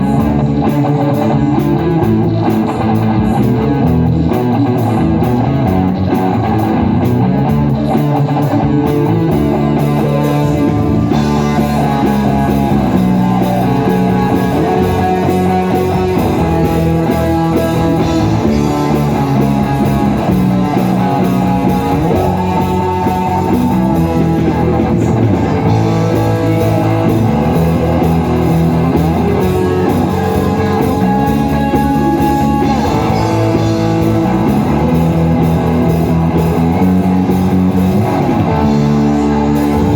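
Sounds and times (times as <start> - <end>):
band playing: 0.0 - 39.9
guitar: 0.0 - 39.9.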